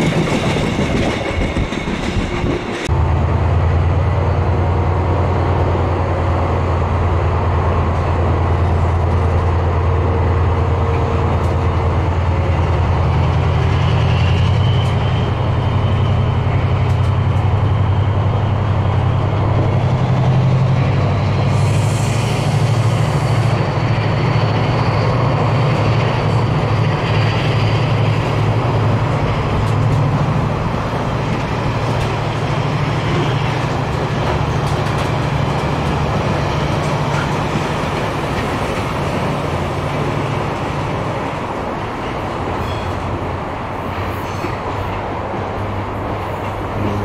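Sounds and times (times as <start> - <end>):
wheel and rail noise: 0.0 - 47.0.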